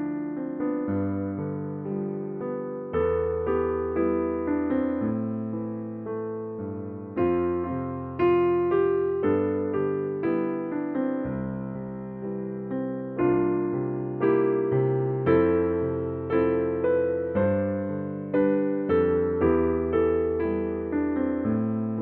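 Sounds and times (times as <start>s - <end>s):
slow soft piano music: 0.0s - 22.0s.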